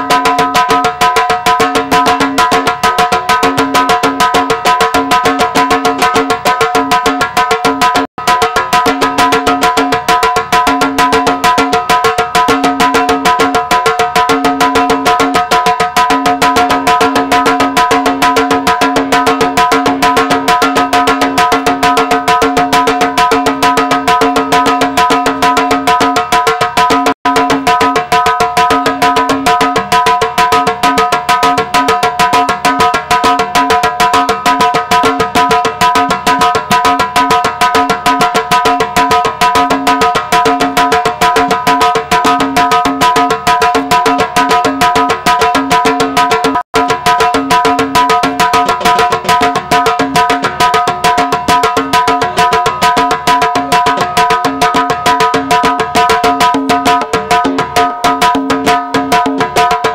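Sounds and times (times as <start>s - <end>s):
dance music with fast drums: 0.0s - 59.9s.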